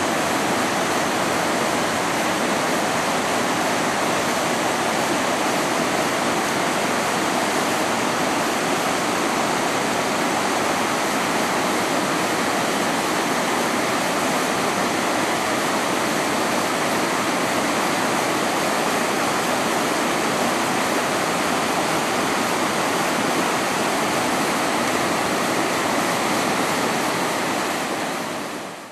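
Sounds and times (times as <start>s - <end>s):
river rapids rushing over rocks: 0.0s - 28.9s.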